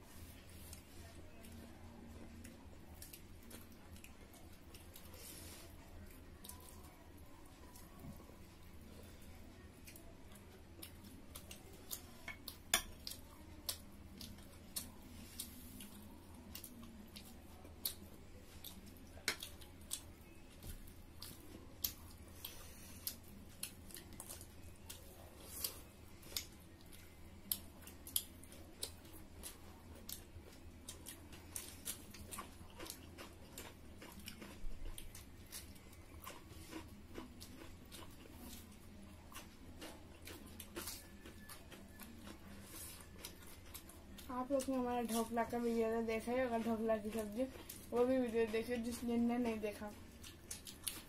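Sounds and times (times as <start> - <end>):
faint low hum: 0.0 - 51.0
chewing with mouth smacks: 0.6 - 45.3, 46.2 - 51.0.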